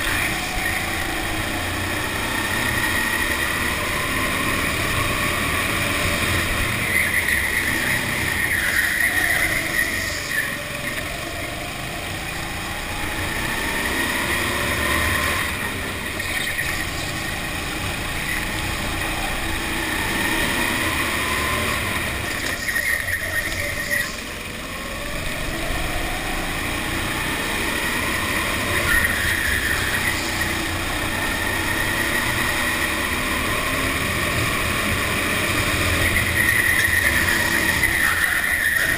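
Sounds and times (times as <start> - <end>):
go-kart motor running hard: 0.0 - 38.9.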